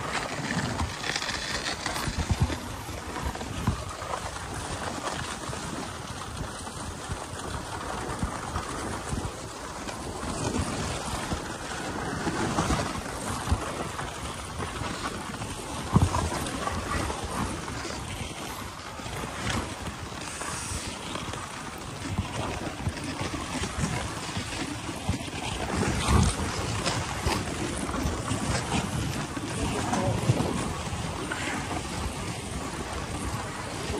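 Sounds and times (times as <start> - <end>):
sled runners scraping snow: 0.0 - 33.9
wind on microphone: 0.0 - 33.9.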